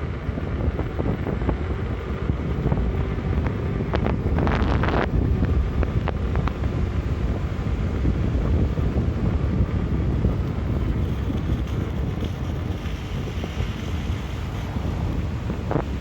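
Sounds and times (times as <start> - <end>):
vehicle driving: 0.0 - 16.0
wind buffeting microphone: 0.0 - 16.0.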